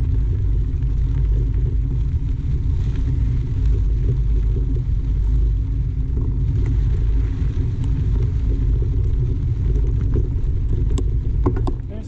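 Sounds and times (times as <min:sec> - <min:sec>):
bike tyres rolling on dirt: 0:00.0 - 0:12.0
faint ticks: 0:00.0 - 0:12.0
wind buffeting microphone: 0:00.0 - 0:12.0.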